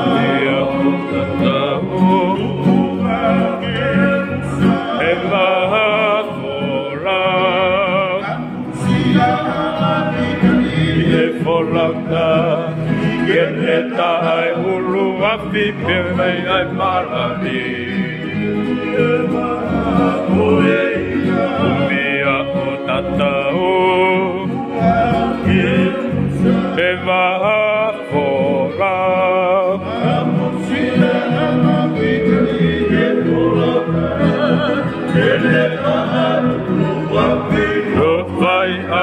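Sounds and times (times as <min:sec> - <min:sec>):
men singing together: 0:00.0 - 0:39.0
strummed acoustic guitars: 0:00.0 - 0:39.0.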